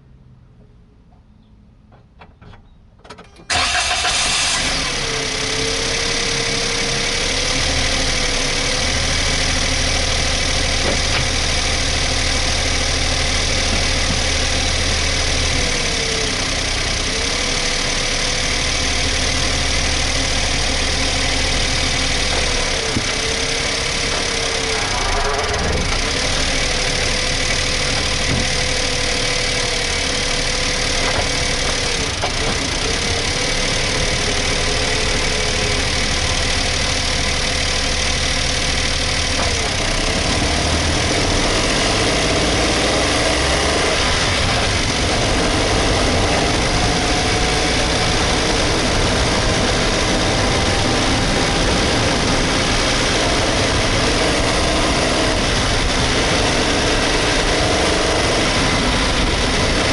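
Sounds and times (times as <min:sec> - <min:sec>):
car engine running: 0:03.4 - 0:59.9.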